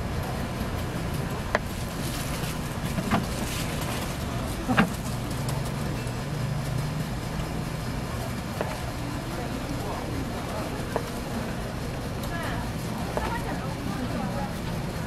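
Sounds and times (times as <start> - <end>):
street market background noise: 0.0 - 15.0.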